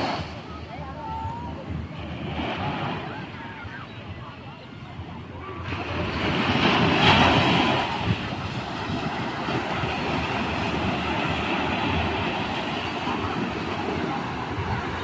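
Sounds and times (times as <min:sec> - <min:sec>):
small ocean waves breaking: 0:00.0 - 0:04.0, 0:04.6 - 0:15.0.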